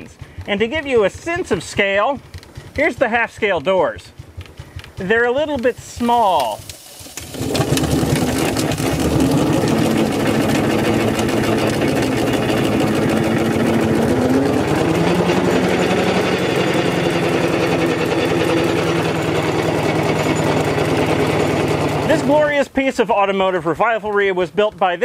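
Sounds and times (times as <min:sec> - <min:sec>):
steam engine running: 0:00.0 - 0:22.7.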